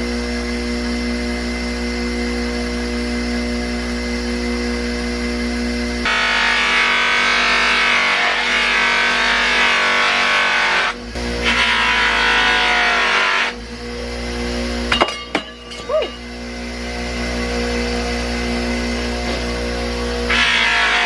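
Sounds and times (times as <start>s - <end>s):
bench motor humming: 0.0s - 21.0s.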